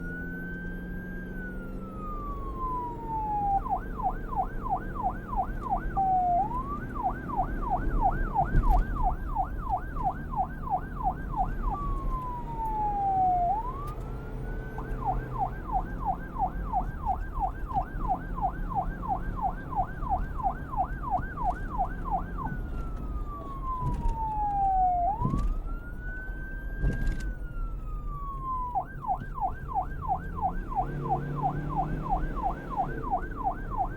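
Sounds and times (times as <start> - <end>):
police siren wail and yelp: 0.0 - 33.9.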